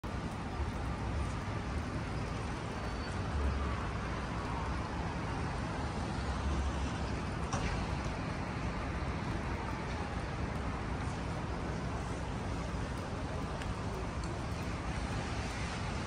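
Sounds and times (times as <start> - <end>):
cars passing on wet road: 0.0 - 16.0.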